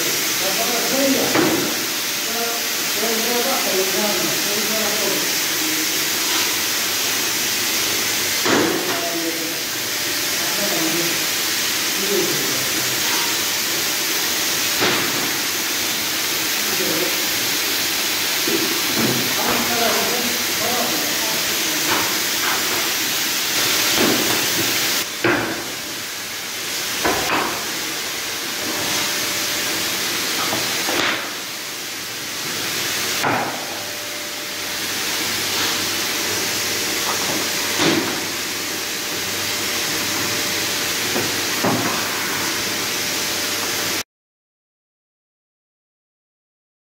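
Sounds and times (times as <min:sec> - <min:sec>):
machinery hiss: 0:00.0 - 0:44.0.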